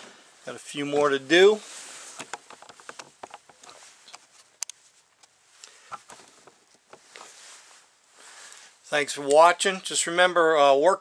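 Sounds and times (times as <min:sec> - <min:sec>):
clothing rustling: 0:00.0 - 0:08.8.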